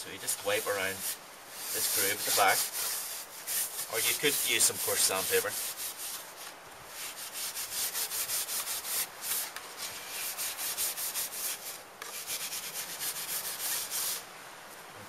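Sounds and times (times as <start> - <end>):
wire wool scrubbing plastic: 0.2 - 14.2.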